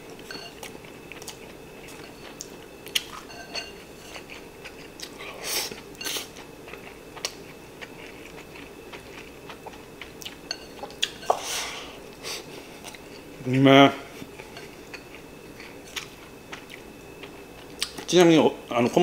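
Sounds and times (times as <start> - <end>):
soft chewing: 0.0 - 13.4, 14.1 - 18.1.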